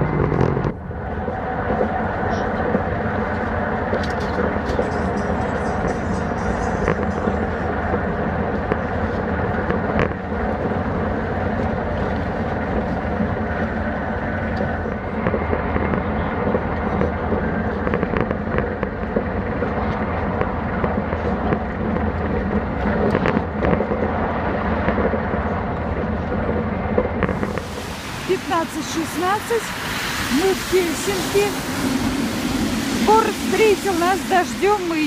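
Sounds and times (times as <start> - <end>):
train carriage rumble and hum: 0.0 - 35.0.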